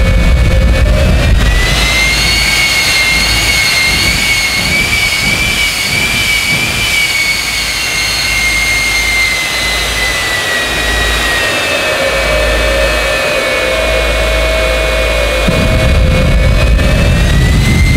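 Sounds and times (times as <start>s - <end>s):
jet engine rushing roar: 0.0s - 17.9s
jet engines high-pitched whine: 0.0s - 17.9s.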